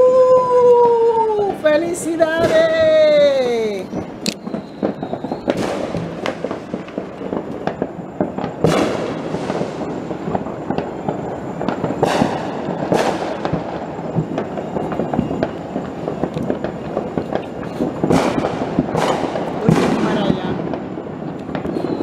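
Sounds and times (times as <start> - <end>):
firecrackers crackling: 0.0 - 22.0
aerial firework bursts: 2.2 - 22.0.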